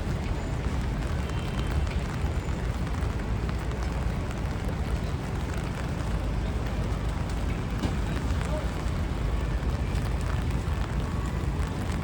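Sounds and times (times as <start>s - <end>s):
low rumble of traffic: 0.0s - 12.0s
rain hissing on wet pavement: 0.0s - 12.0s.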